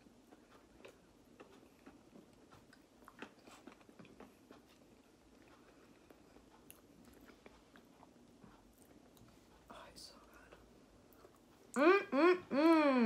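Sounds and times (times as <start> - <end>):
person chewing: 0.0 - 11.8.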